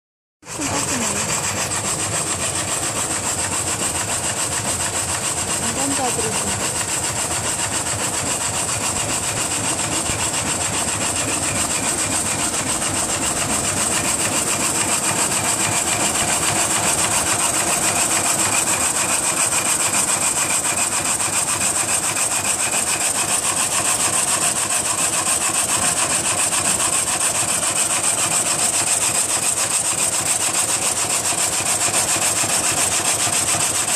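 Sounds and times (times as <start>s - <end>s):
frame saw cutting log: 0.4s - 33.9s.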